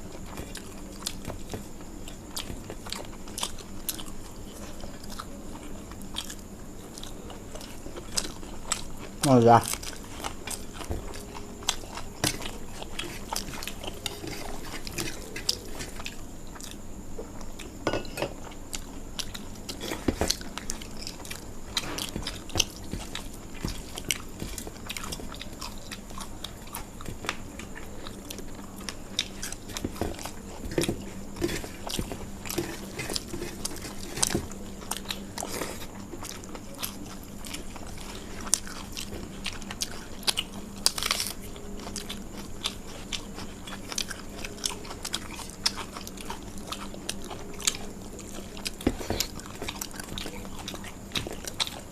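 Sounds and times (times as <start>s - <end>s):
faint steady hum: 0.0s - 51.9s
people chewing crunchy food: 0.0s - 51.9s.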